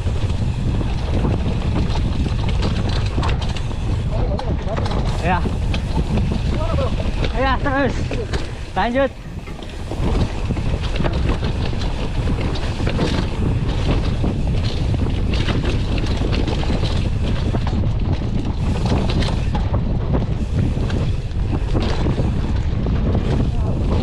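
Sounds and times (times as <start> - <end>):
bike rattles and knocks: 0.0 - 24.0
wind buffeting microphone: 0.0 - 24.0.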